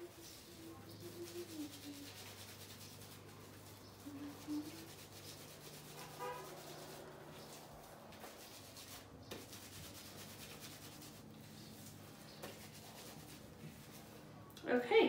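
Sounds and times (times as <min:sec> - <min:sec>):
hands rubbing wet hair: 0:00.0 - 0:14.4.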